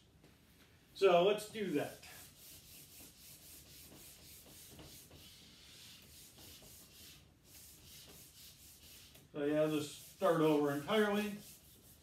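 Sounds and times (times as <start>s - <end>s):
eraser rubbing on whiteboard: 1.7s - 12.0s.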